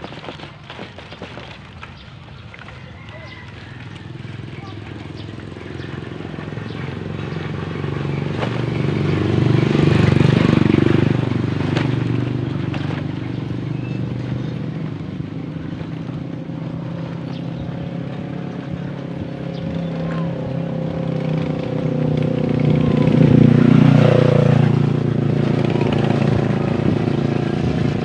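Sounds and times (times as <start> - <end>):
small engine running: 2.4 - 28.0.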